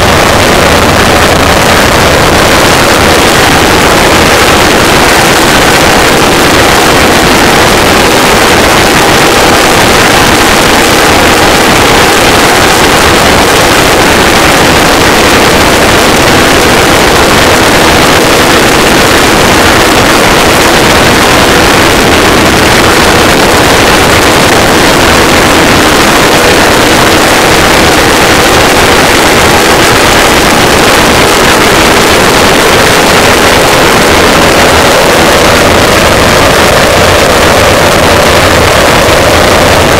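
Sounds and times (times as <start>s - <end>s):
pulse jet engines droning: 0.0s - 39.9s.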